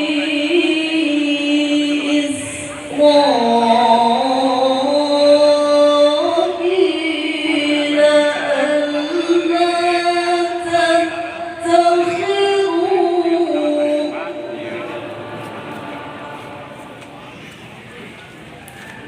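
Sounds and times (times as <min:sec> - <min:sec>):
person chanting recitation: 0:00.0 - 0:18.0.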